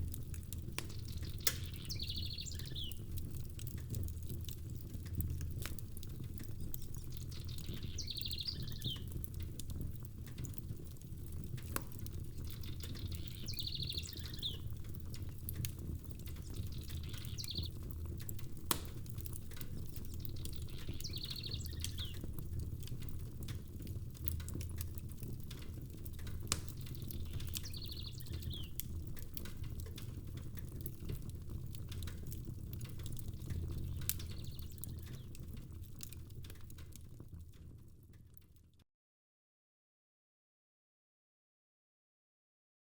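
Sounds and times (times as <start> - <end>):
fireplace crackling and popping: 0.0 - 38.8
low rumble of rain: 0.0 - 38.8.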